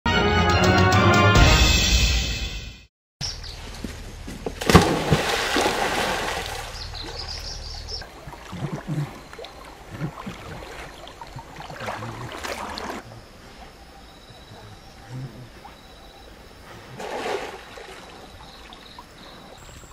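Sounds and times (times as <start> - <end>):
water splashing and sloshing: 3.6 - 19.9.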